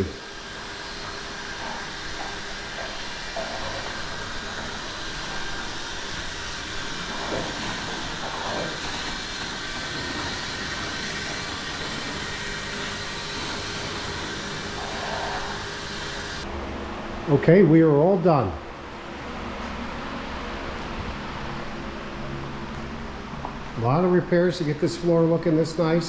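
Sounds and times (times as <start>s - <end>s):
machine or fan hissing: 0.0s - 26.0s.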